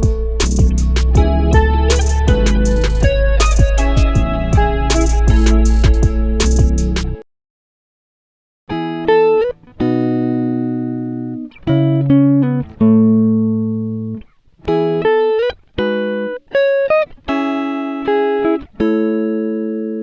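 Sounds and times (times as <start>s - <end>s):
plucked guitar music: 0.0s - 7.2s, 8.7s - 20.0s.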